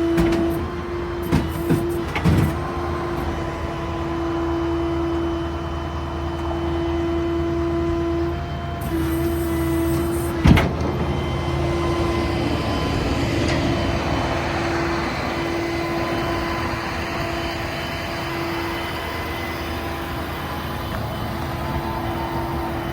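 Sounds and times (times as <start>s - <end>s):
steady whine: 0.0s - 22.9s
truck engine rumble: 0.0s - 22.9s.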